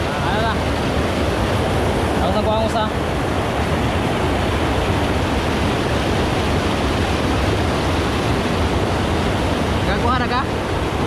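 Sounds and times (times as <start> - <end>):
river water rushing over rapids: 0.0 - 11.0.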